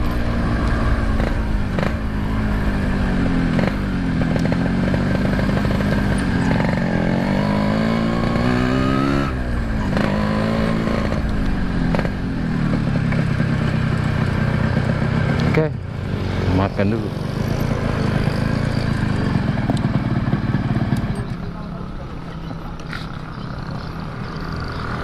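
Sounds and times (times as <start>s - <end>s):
two-stroke motorcycle engine revving: 0.0s - 22.2s.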